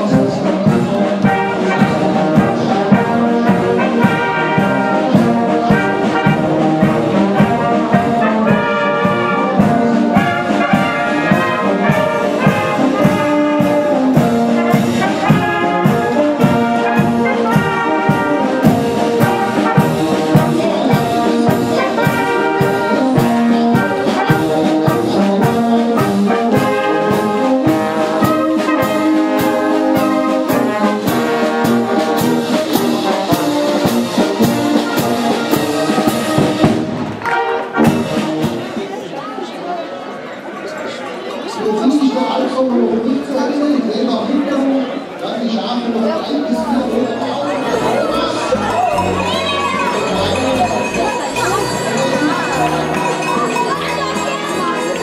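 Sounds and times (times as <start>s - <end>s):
brass band playing a march: 0.0s - 39.0s, 46.5s - 55.0s.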